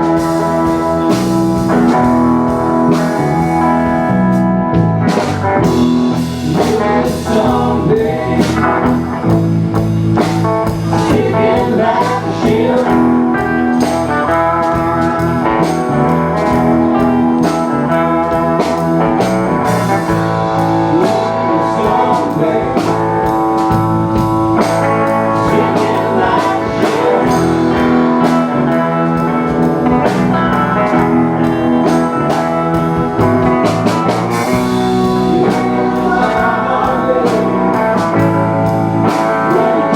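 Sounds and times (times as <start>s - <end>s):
live blues-rock band: 0.0s - 39.9s.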